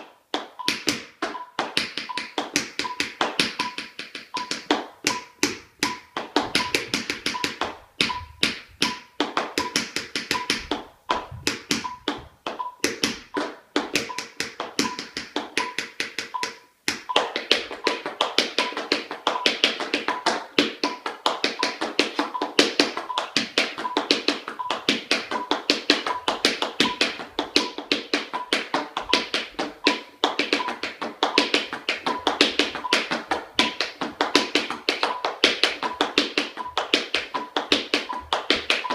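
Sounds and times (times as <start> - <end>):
tap shoes on wooden floor: 0.0 - 38.9
metronome beeping: 0.6 - 38.9.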